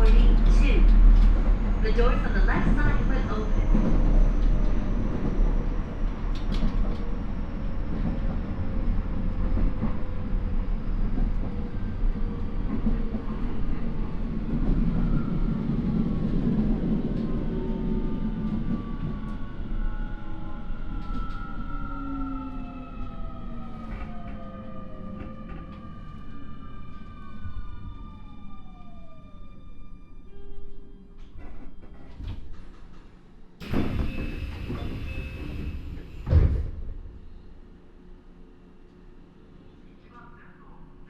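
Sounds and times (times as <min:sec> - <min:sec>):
wheels rumbling on rail: 0:00.0 - 0:27.2, 0:31.2 - 0:39.1.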